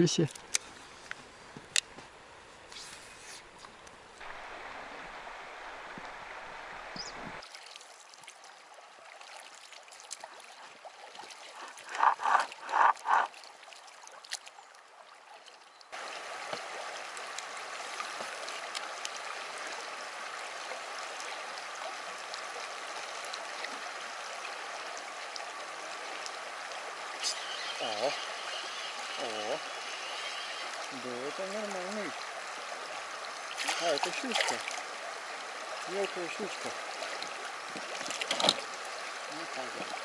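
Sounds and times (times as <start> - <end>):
river water flowing: 0.0 - 40.0.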